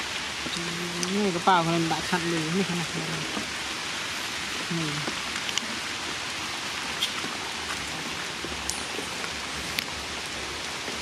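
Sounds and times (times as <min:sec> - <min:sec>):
rain on muddy ground and puddles: 0:00.0 - 0:11.0.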